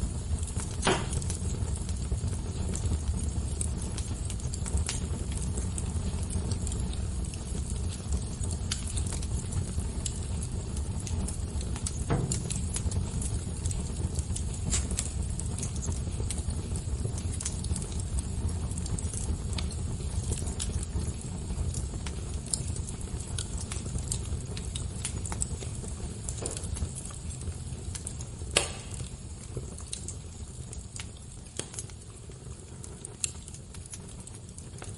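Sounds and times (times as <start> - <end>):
fire crackling and popping: 0.0 - 34.9
low rumble of flame: 0.0 - 34.9.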